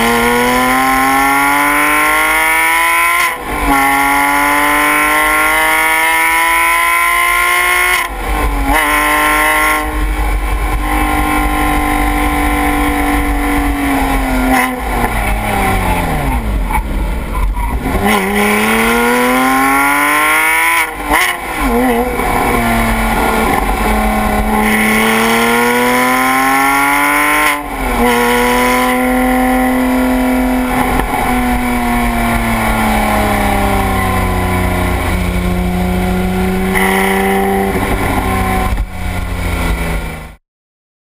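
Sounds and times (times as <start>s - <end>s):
car engine revving: 0.0s - 40.4s.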